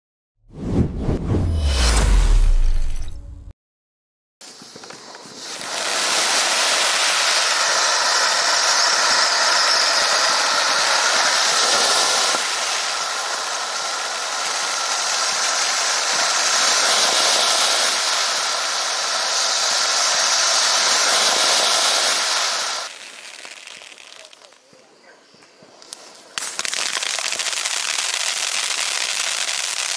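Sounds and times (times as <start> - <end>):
firework fountain hissing: 4.4 - 24.8, 25.7 - 29.9.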